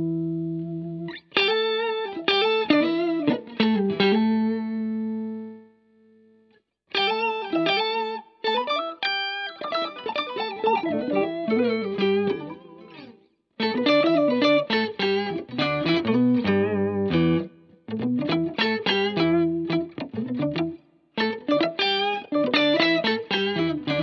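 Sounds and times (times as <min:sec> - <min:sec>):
electric guitar with octave effect: 0:00.0 - 0:24.0.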